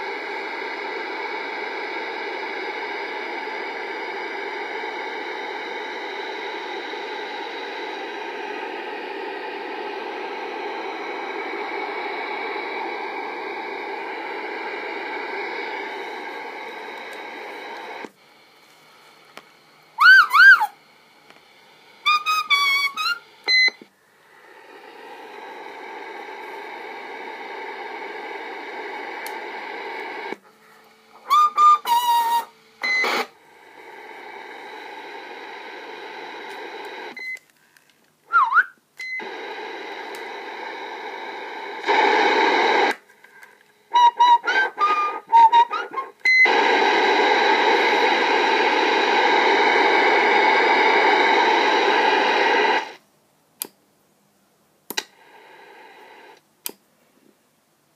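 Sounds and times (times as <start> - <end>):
radio static: 0.0 - 37.2, 39.2 - 53.0, 55.1 - 56.4.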